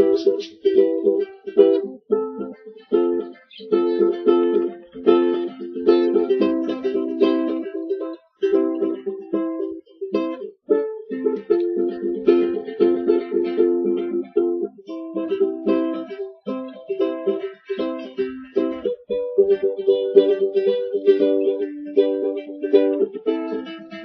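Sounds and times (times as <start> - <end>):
ukulele strumming chords: 0.0 - 24.0.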